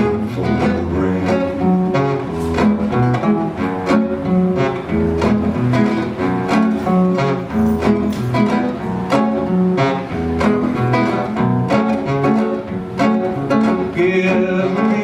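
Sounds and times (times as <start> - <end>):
bass line: 0.0 - 15.0
guitar playing: 0.0 - 15.0
plucked notes beat: 0.0 - 15.0.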